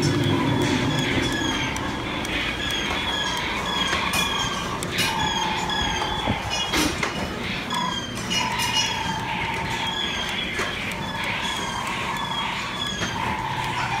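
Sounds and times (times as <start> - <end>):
machinery noise: 0.0 - 14.0
steady whine: 0.0 - 14.0.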